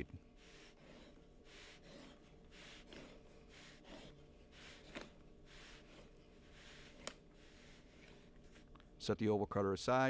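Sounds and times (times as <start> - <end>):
blade cutting through mat board: 0.0 - 8.3.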